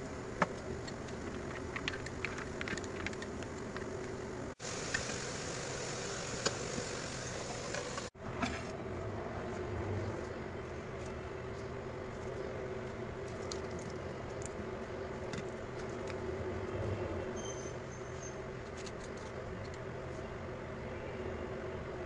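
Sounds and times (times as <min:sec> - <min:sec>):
kitchen work hum: 0:00.0 - 0:21.2.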